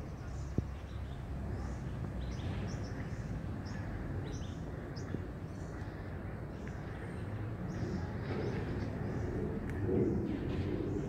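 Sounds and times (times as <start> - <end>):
birds chirping: 0.0 - 11.0
low background rumble: 0.0 - 11.0.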